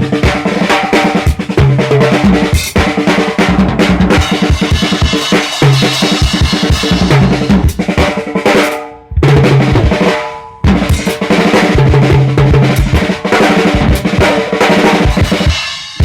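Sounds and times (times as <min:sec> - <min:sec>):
drum kit played hard: 0:00.0 - 0:16.0.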